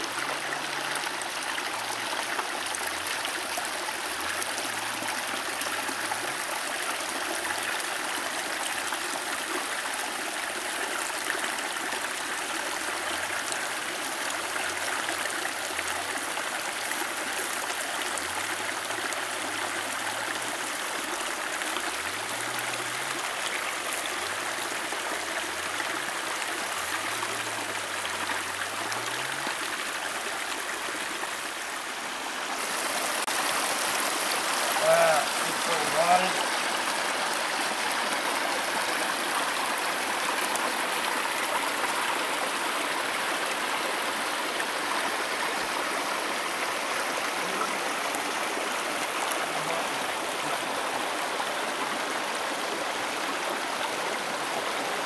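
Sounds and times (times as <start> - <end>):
creek water running over stones: 0.0 - 55.0.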